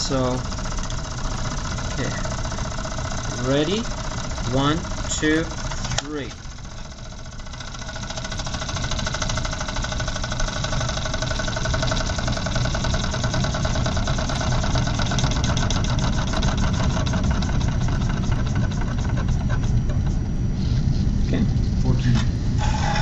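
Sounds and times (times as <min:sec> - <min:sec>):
model steam engine chuffing: 0:00.0 - 0:20.0
steady whir: 0:00.0 - 0:23.0.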